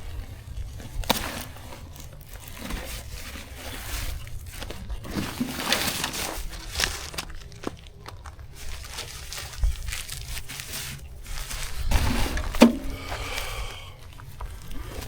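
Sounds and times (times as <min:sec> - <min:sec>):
crinkling and crunching: 0:00.0 - 0:15.0.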